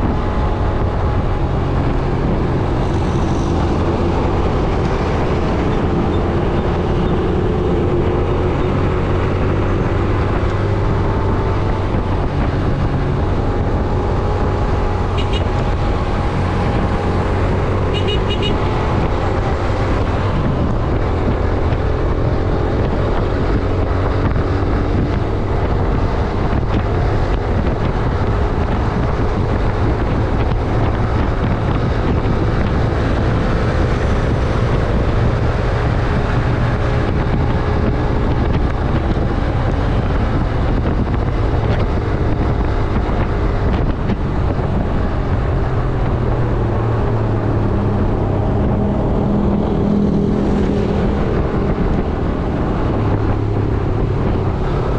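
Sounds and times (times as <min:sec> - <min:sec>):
traffic: 0:00.0 - 0:54.9
wind on microphone: 0:00.0 - 0:54.9.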